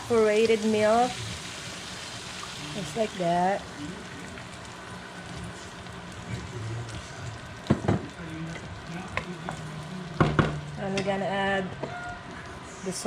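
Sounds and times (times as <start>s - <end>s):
milk sizzling in a frying pan: 0.0s - 13.0s.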